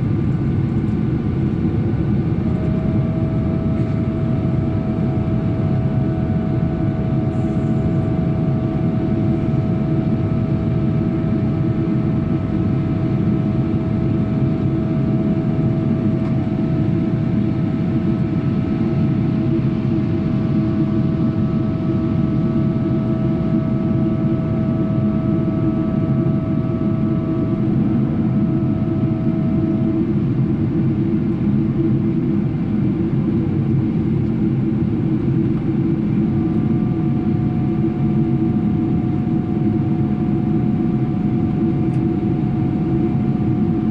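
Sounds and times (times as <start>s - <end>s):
airliner cabin roar: 0.0s - 43.9s
jet engine whine: 0.0s - 43.9s.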